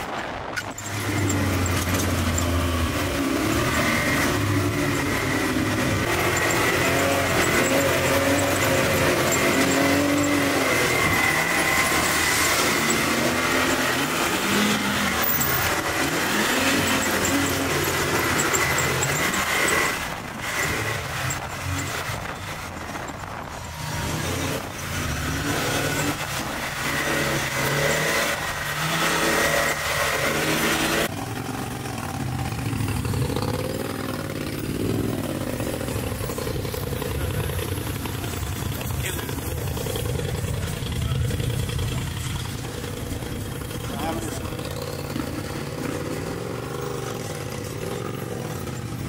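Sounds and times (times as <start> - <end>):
off-road engines revving: 0.0 - 49.0.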